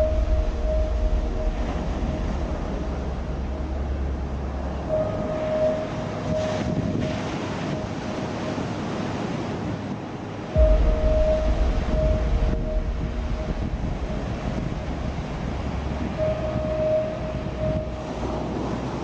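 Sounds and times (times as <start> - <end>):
deep bass drone: 0.0 - 7.0, 10.6 - 19.0
held ambient tone: 0.0 - 8.9, 10.5 - 19.0
rushing surf-like noise: 0.0 - 19.0.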